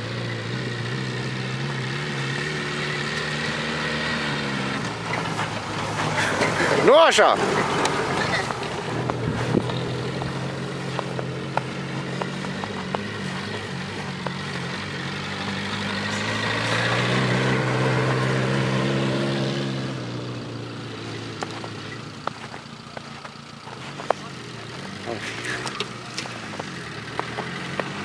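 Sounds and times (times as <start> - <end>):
jeep engine driving over snow: 0.0 - 28.0.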